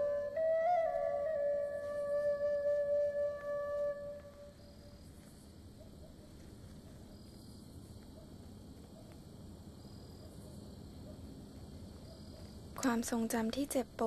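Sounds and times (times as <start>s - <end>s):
insects chirping: 0.0s - 14.0s
low background noise: 0.0s - 14.0s.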